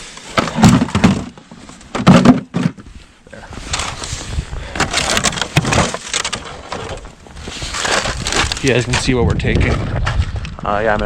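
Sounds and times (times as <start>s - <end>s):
rattling and rustling: 0.3s - 2.9s, 3.6s - 10.4s.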